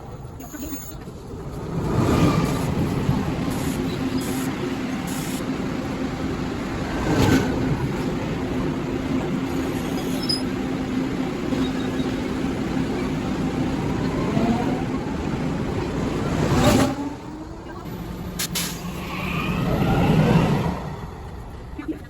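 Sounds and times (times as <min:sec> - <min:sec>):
train rumble and hiss: 0:00.2 - 0:22.0.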